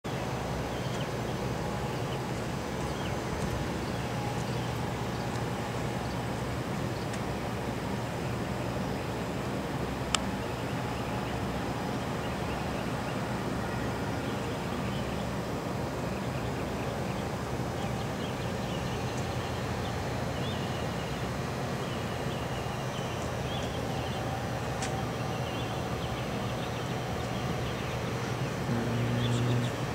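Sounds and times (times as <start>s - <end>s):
highway traffic rumble: 0.0s - 29.9s.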